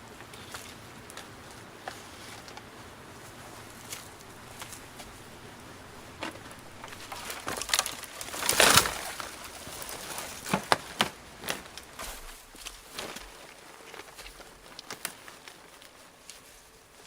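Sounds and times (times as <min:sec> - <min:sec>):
dry wood cracking and snapping: 0:00.0 - 0:17.0.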